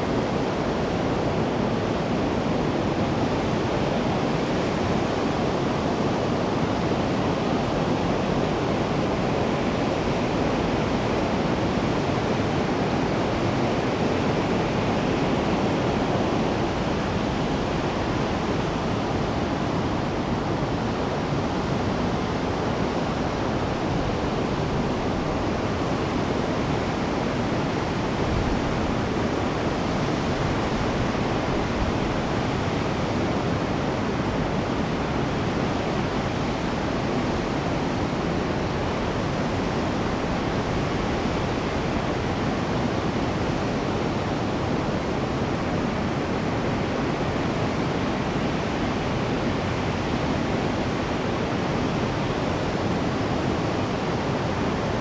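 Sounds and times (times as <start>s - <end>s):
river water rushing over weir: 0.1s - 55.0s.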